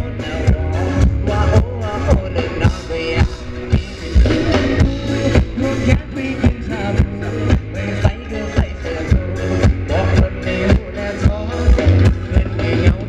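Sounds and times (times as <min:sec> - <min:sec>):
band melody: 0:00.0 - 0:13.0
drum beat: 0:00.0 - 0:13.0.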